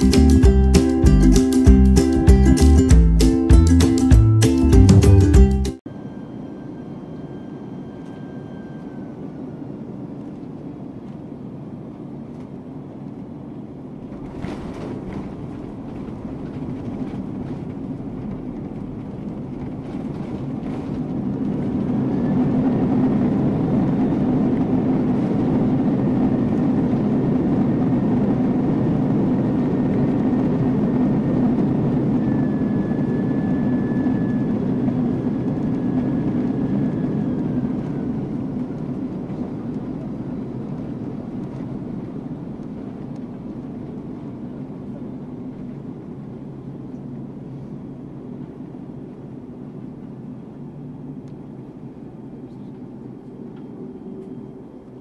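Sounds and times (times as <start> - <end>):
jet engines in reverse thrust: 5.9 - 55.0
runway rumble: 9.0 - 55.0.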